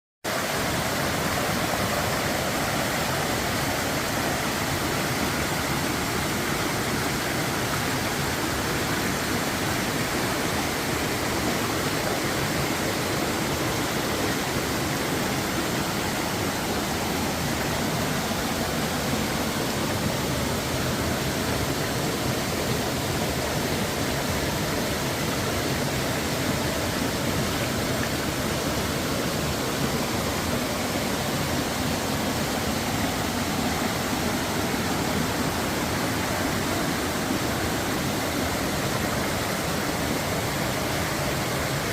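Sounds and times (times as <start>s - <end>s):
water flowing: 0.3s - 41.9s.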